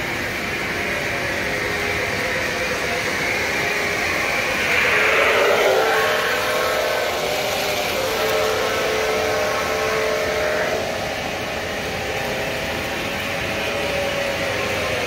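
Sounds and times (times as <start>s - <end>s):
diesel engine drone: 0.0s - 15.0s
model train cars rolling on track: 0.0s - 15.0s.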